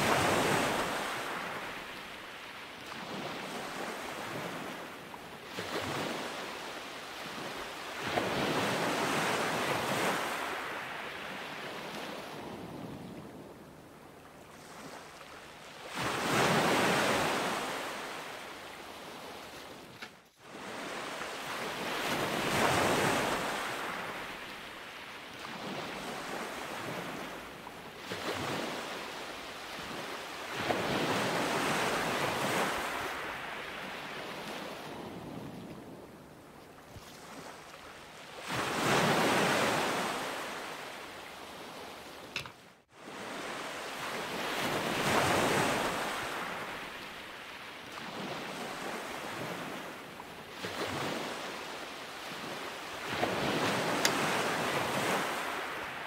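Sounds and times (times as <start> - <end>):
ocean waves washing in: 0.0 - 13.0, 20.4 - 36.4, 37.1 - 56.0.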